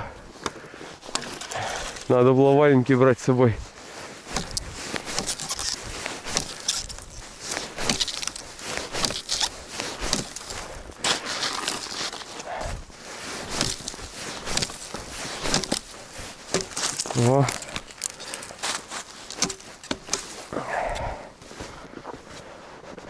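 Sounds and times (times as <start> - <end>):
crunching in frozen snow: 0.6 - 23.0.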